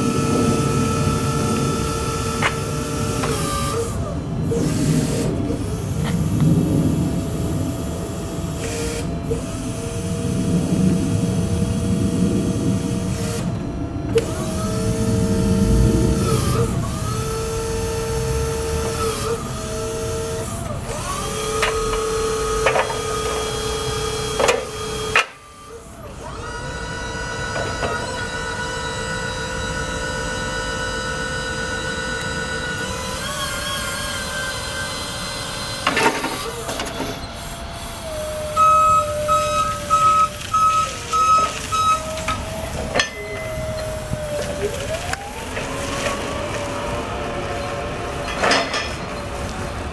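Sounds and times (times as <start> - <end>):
hydraulic pump motor whining: 0.0 - 49.9.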